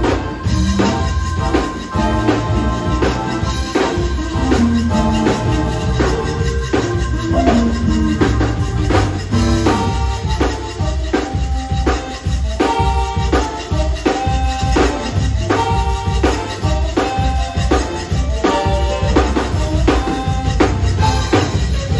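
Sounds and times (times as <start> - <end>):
accordion chords: 0.0 - 21.9
drum kit beat: 0.0 - 21.9
electric bass: 0.0 - 21.9.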